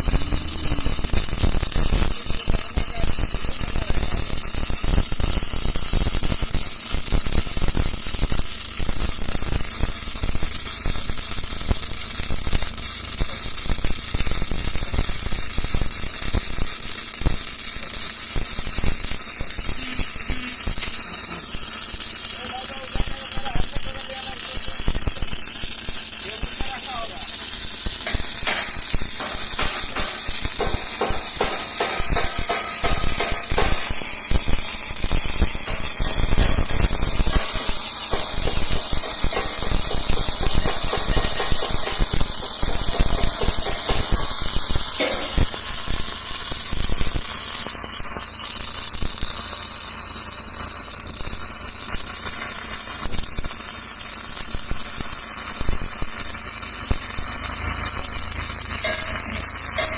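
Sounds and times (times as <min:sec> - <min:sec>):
welding arc crackling and hissing: 0:00.0 - 0:59.9.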